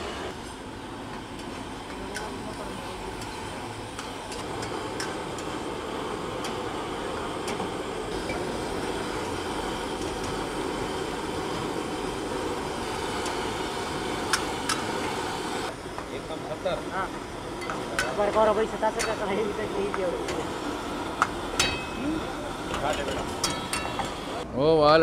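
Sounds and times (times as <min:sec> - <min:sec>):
street food stall roaring: 0:00.0 - 0:25.0.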